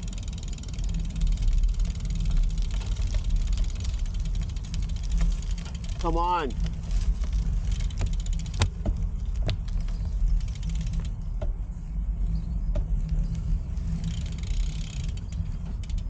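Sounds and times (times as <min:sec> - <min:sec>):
bicycle clicks and rattles: 0:00.0 - 0:16.0
wind and riding rumble: 0:00.0 - 0:16.0.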